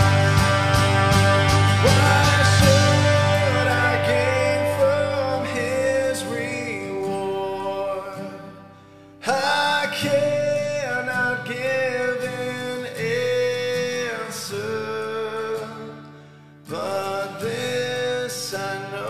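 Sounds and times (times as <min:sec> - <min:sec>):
man singing a hymn: 0:00.0 - 0:08.6, 0:09.2 - 0:16.0, 0:16.7 - 0:19.0
acoustic guitar: 0:00.0 - 0:19.0.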